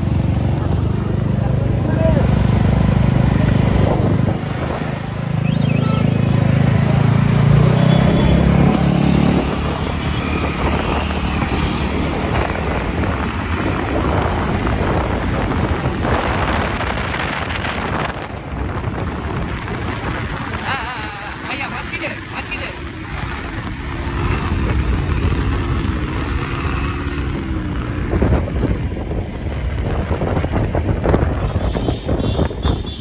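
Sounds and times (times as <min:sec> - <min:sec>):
motorcycle engine passing: 0:00.0 - 0:18.3, 0:19.7 - 0:28.8
road noise: 0:00.0 - 0:33.0
wind rush: 0:02.2 - 0:07.7, 0:08.4 - 0:33.0.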